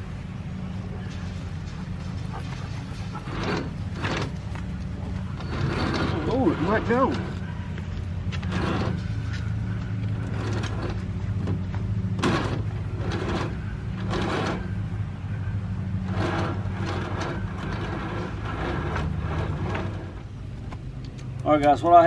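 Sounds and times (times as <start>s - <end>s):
winch cable clicks and scrapes: 1.1s - 14.8s, 16.0s - 21.9s.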